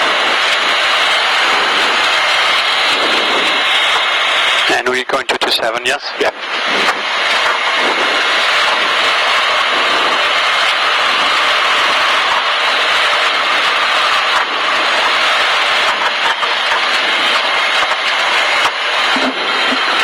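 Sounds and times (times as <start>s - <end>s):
light aircraft engine running: 0.0s - 20.0s.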